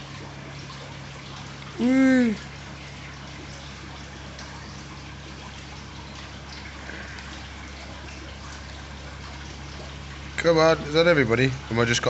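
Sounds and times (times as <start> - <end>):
aquarium water trickling: 0.0 - 12.0.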